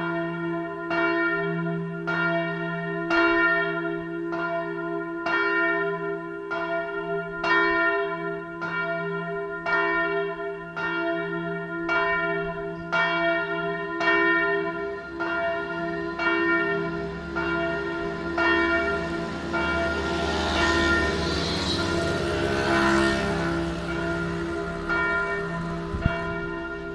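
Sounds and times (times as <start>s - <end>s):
church bell ringing: 0.0s - 26.9s.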